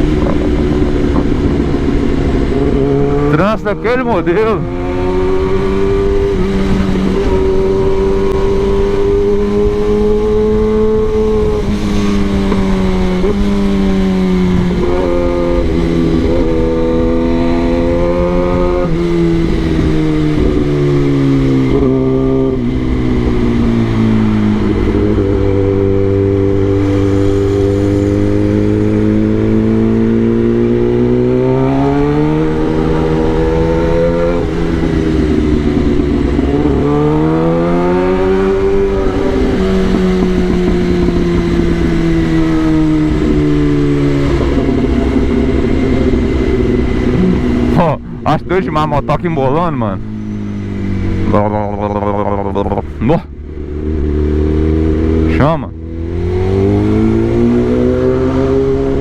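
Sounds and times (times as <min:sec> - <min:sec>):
motorcycle engine running: 0:00.0 - 0:03.8, 0:04.6 - 0:59.0.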